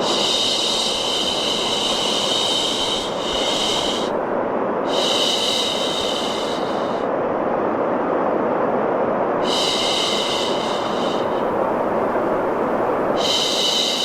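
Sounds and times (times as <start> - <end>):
white noise: 0.0 - 14.0.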